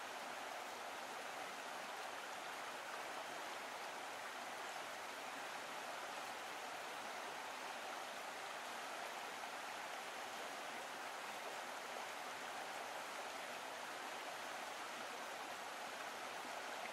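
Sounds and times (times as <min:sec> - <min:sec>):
stream running over rocks: 0:00.0 - 0:16.9.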